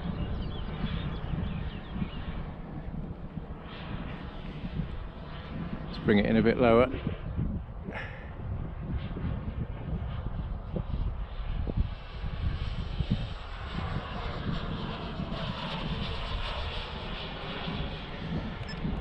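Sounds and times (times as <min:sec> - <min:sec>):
model jet turbine rushing: 0:00.0 - 0:19.0.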